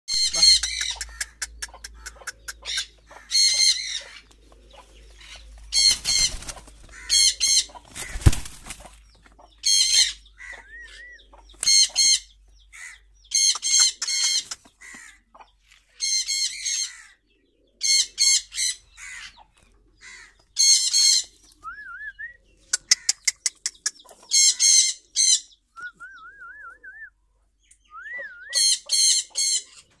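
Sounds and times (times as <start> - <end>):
pigeon squeaky calls: 0.1 - 8.5, 9.6 - 17.1, 17.8 - 26.6, 27.9 - 30.0.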